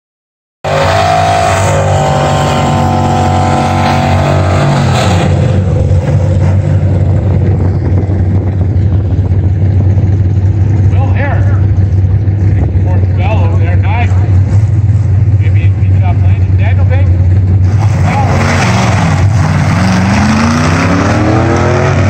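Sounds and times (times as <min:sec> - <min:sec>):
drag car engine at high revs: 0:00.6 - 0:22.0
drag car engines running loudly: 0:00.6 - 0:22.0.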